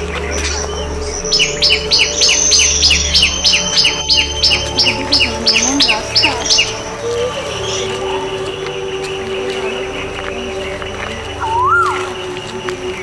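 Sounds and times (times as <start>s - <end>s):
bird chirping: 0.0s - 13.0s
soft background music: 0.0s - 13.0s.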